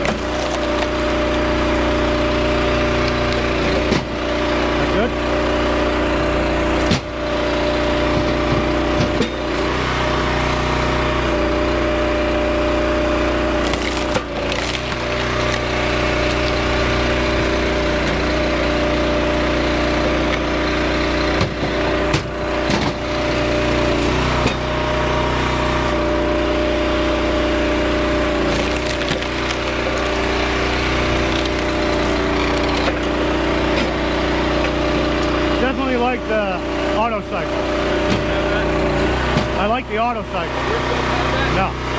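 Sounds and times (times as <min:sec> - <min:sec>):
wood cracking and splitting: 0:00.0 - 0:36.0
log splitter engine running: 0:00.0 - 0:41.9.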